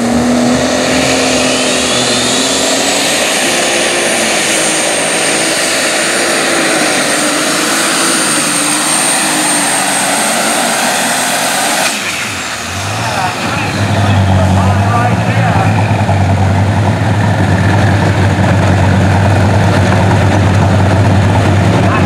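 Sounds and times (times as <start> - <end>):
high whine: 0.0 - 22.0
tractor engine at full power: 0.0 - 22.0.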